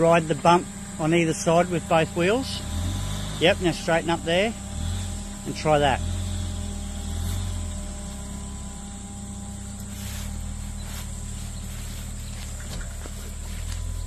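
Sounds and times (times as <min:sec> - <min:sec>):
vehicle engine at low revs: 0:00.0 - 0:14.0.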